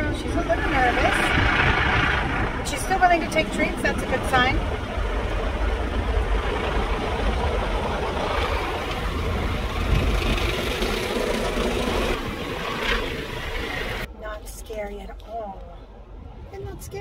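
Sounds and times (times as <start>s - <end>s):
car wash machinery rumble: 0.0s - 14.1s.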